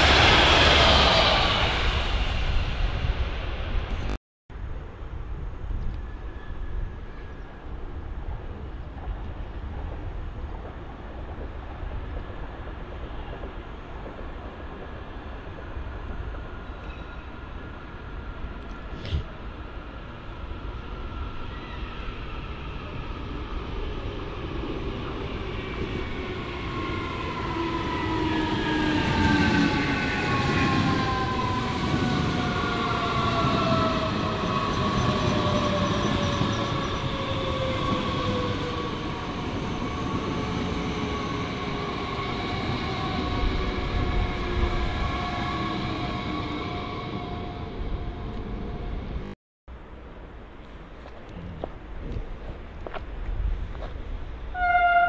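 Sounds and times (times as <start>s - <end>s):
train wheels rumbling on rail: 0.0s - 4.2s, 5.2s - 49.3s.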